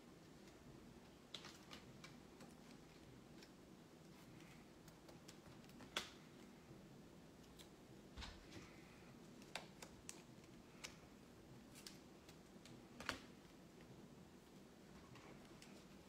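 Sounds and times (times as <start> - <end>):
low room hum: 0.0 - 16.0
faint clicks and light taps: 0.1 - 6.7, 7.4 - 16.0.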